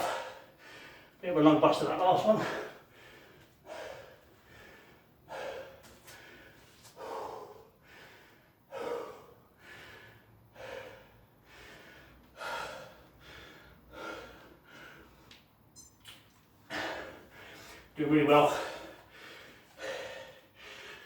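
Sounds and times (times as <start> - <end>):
man panting: 0.0 - 1.2, 2.3 - 15.3, 16.7 - 21.0.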